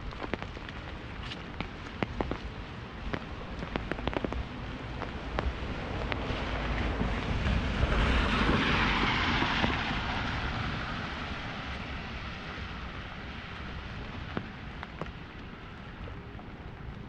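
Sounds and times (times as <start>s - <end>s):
rain on an umbrella: 0.0s - 17.0s
tyre hiss on wet street: 0.1s - 17.0s.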